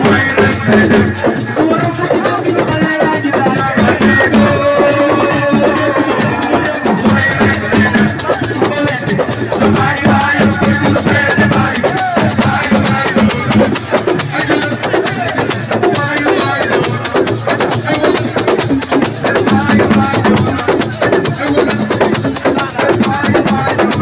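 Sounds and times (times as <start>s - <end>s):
fast drumming: 0.0s - 24.0s
shakers: 0.0s - 24.0s
voices singing: 0.0s - 24.0s.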